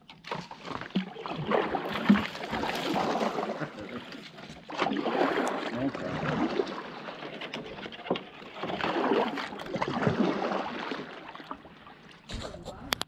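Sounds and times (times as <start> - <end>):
kayak paddle swishing through water: 0.0 - 12.8.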